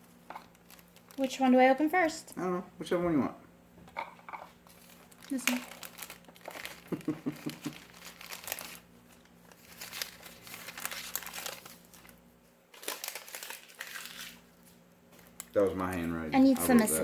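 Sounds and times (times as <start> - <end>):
packaging crinkling and tearing: 0.4 - 1.8, 4.6 - 16.9.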